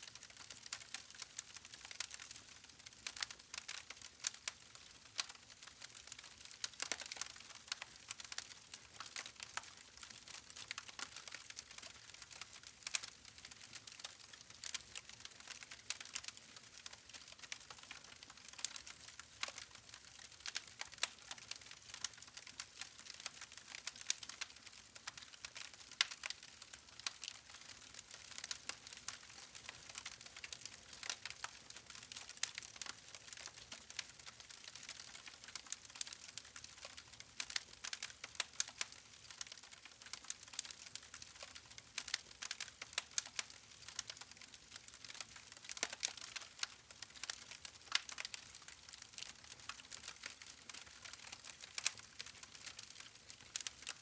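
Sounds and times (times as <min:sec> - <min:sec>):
campfire crackling and popping: 0:00.2 - 0:54.0.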